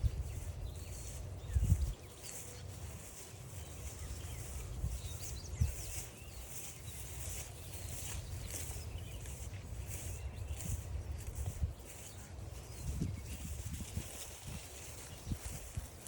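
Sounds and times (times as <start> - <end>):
footsteps crunching on trail: 0.0 - 16.0
songbirds chirping and singing: 0.0 - 16.0.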